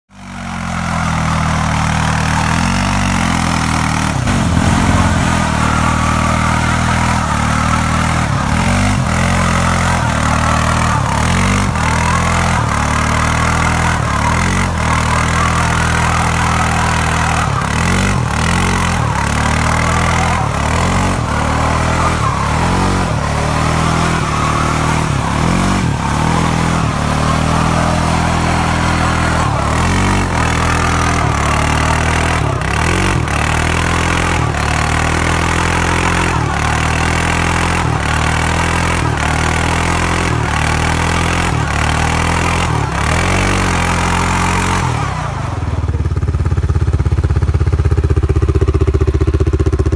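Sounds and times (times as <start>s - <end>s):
atv engine at high revs: 0.1s - 49.9s.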